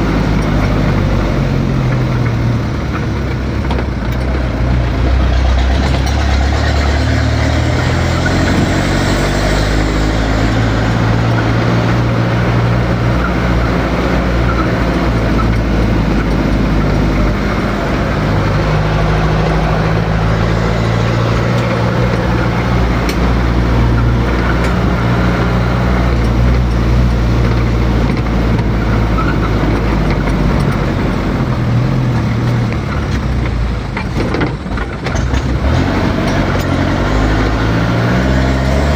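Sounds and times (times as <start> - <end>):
road noise: 0.0 - 38.9
vehicle engine running: 0.0 - 38.9.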